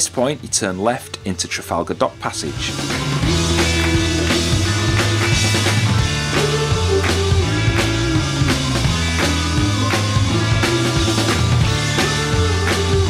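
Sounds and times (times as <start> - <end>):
rock music with drums and bass: 1.9 - 13.0.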